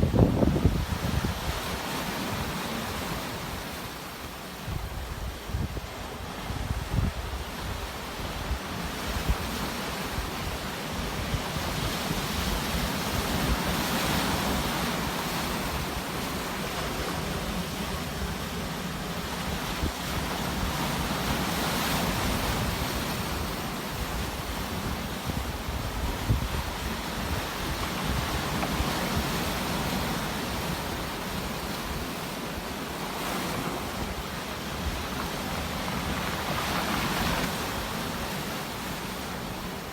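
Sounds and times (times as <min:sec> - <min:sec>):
sea surf washing: 0:00.0 - 0:39.9.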